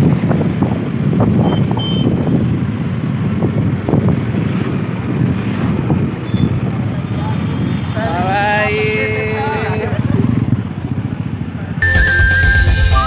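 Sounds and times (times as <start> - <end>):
wind buffeting microphone: 0.0 - 11.2
motorbike engine: 0.0 - 13.0
road noise: 0.0 - 13.0.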